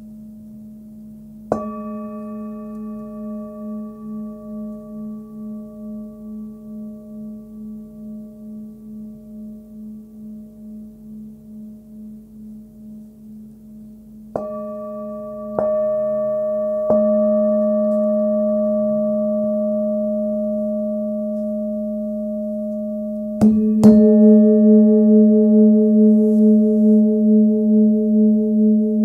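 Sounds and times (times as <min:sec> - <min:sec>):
singing bowl struck and ringing: 0:01.5 - 0:13.4, 0:14.3 - 0:29.0.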